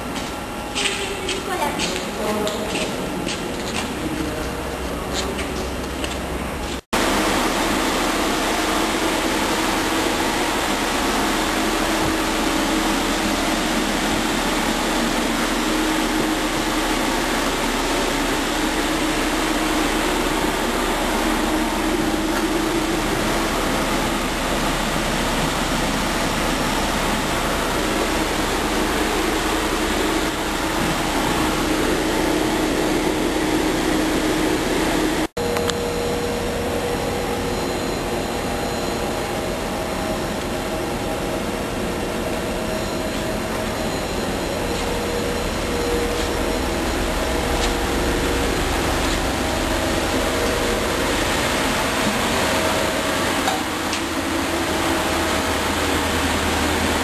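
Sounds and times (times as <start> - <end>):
mechanical hum and hiss: 0.0 - 57.0.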